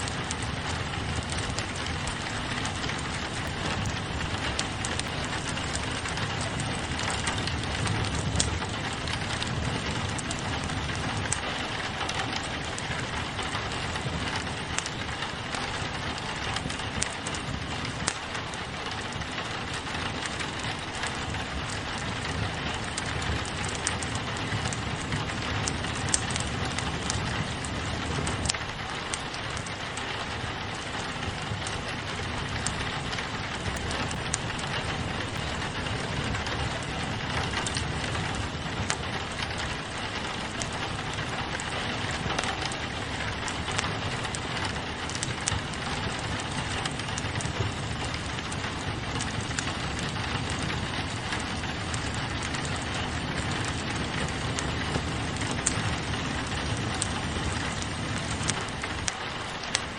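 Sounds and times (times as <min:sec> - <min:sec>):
rain pattering on a window: 0:00.0 - 0:59.9
wood fire crackling: 0:00.0 - 0:59.9.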